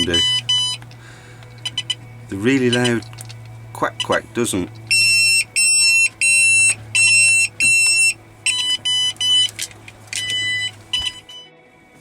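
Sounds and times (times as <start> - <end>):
high electronic beeps: 0.0 - 0.9, 1.6 - 4.2, 4.8 - 9.6, 10.2 - 11.5.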